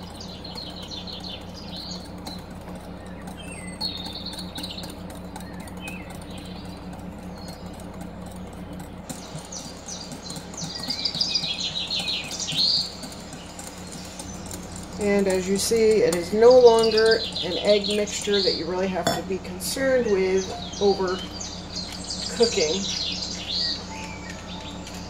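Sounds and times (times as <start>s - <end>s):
whisk beating in glass bowl: 0.0s - 25.0s.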